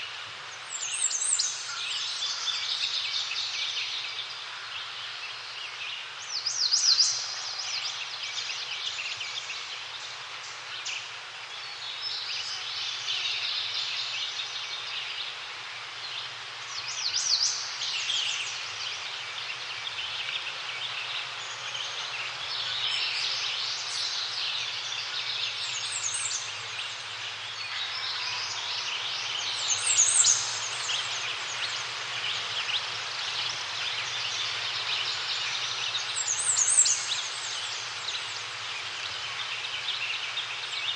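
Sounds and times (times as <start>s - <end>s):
songbirds singing: 0.0s - 40.9s
steady background hiss: 0.0s - 40.9s.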